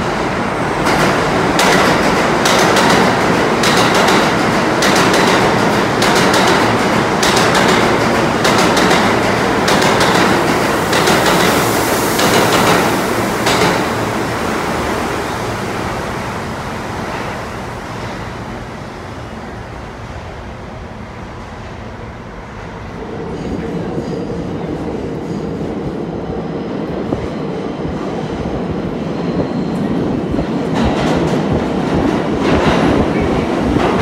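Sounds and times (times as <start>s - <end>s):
subway train wheels clacking: 0.0s - 34.0s.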